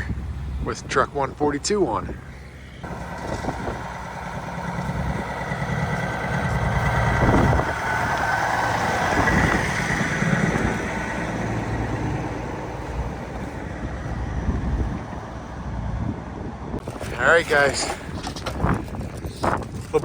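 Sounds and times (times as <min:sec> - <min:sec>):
diesel truck driving past: 0:00.0 - 0:16.8.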